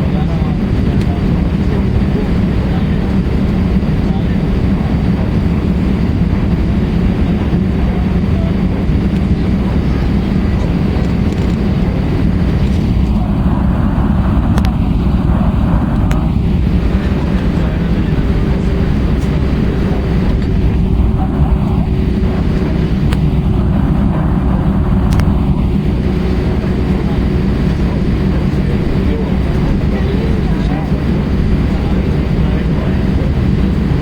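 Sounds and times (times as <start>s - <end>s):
aircraft cabin rumble: 0.0s - 34.0s.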